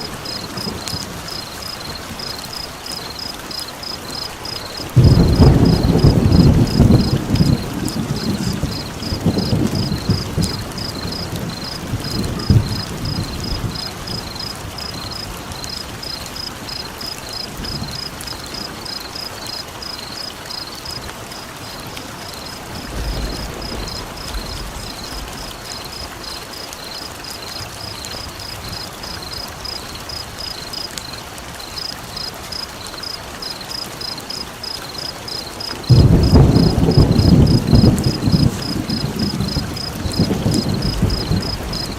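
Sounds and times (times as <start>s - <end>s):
thunder rumbles: 0.0s - 19.0s, 21.7s - 30.8s, 33.0s - 41.9s
steady rain hiss: 0.0s - 41.9s.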